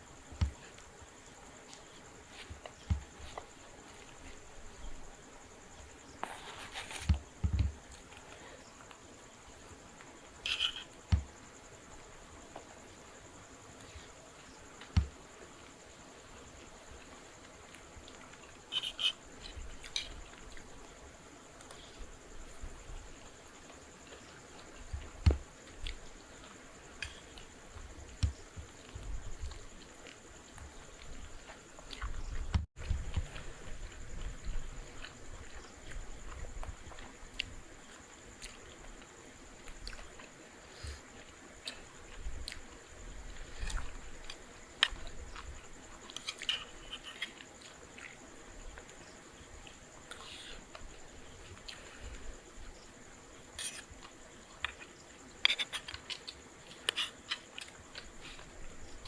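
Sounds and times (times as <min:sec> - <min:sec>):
crickets chirring: 0:00.0 - 0:59.0
high-pitched insect trill: 0:00.0 - 0:59.0.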